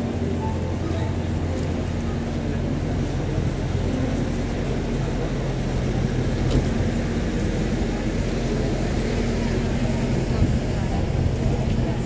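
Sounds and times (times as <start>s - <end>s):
bus engine hum: 0.0s - 12.0s
street traffic: 0.0s - 12.0s.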